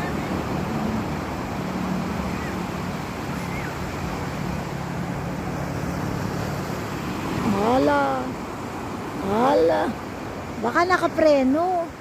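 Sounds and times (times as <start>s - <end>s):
wind and surf rushing: 0.0s - 12.0s.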